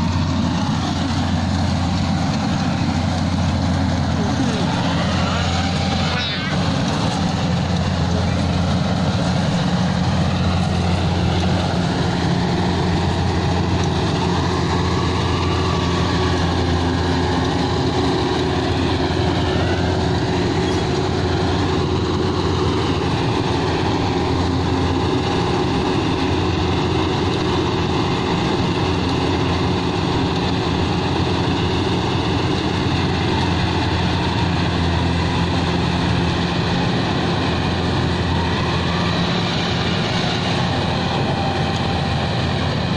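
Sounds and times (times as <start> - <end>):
combine harvester engine droning: 0.0 - 42.9.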